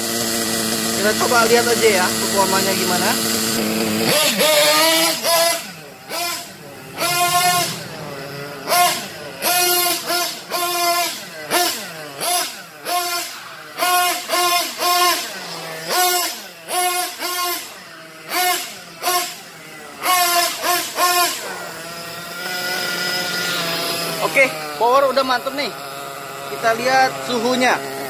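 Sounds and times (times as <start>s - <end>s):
model buggy engine revving: 0.0s - 28.0s.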